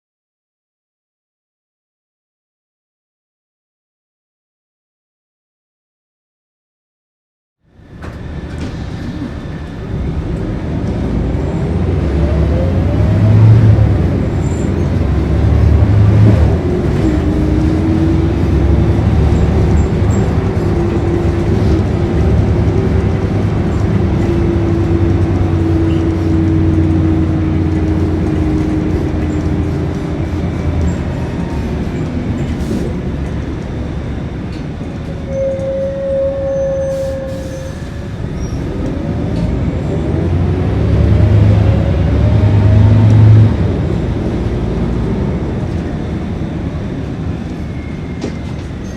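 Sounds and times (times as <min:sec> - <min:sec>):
bus diesel engine running: 0:07.7 - 0:35.3, 0:36.8 - 0:48.9.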